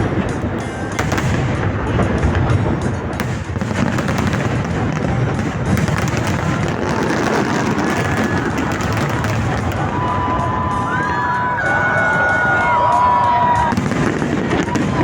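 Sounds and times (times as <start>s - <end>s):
deep fireworks booms: 0.0s - 15.0s
fireworks bangs and crackling: 0.0s - 15.0s.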